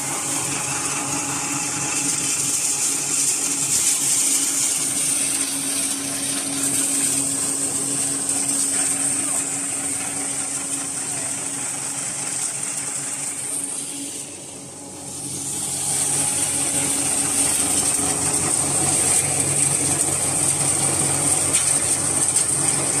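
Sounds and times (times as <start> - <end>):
grain grinder hum and whine: 0.0 - 23.0.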